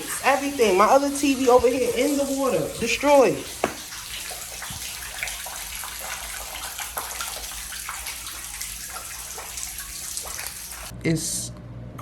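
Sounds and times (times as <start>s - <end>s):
water drips and splashes: 0.0s - 10.9s
water leaking from ceiling: 0.0s - 10.9s.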